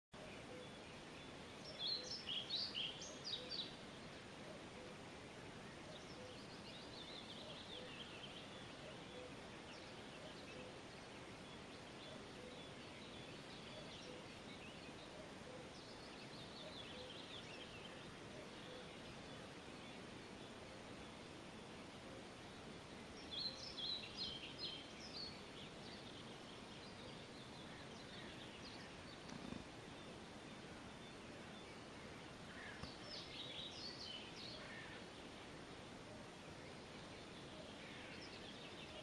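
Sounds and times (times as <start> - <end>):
faint background noise: 0.1 - 39.0
songbirds chirping: 0.1 - 39.0.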